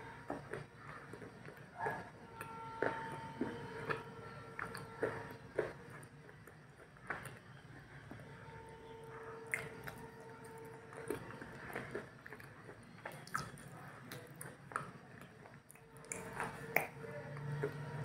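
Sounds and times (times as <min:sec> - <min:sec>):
person chewing crunchy chips: 0:00.0 - 0:07.5, 0:09.4 - 0:18.0.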